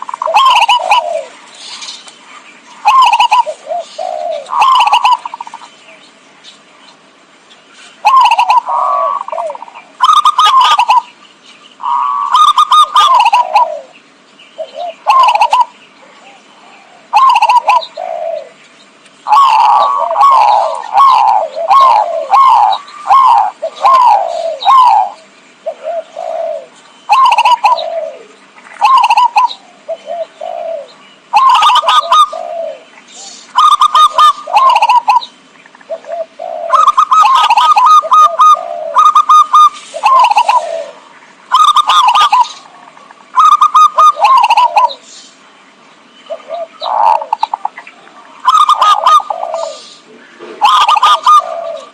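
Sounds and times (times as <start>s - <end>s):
dove cooing: 0.0s - 2.0s, 2.8s - 5.8s, 8.0s - 11.2s, 11.8s - 14.0s, 14.6s - 18.6s, 19.2s - 45.1s, 46.3s - 51.9s.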